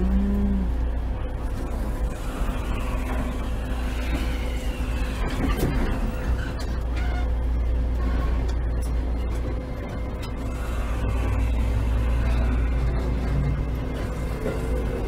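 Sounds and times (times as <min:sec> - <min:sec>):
low hum of train equipment: 0:00.0 - 0:15.0.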